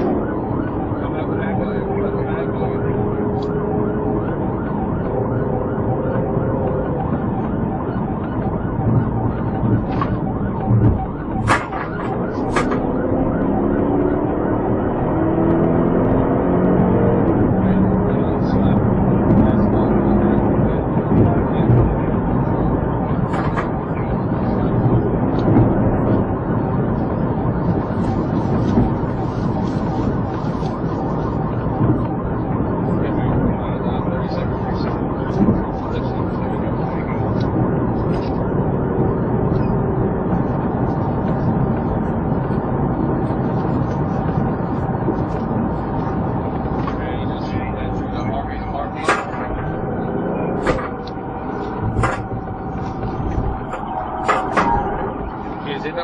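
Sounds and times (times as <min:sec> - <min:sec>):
police siren: 0:00.0 - 0:56.0
vehicle engine and road noise: 0:00.0 - 0:56.0.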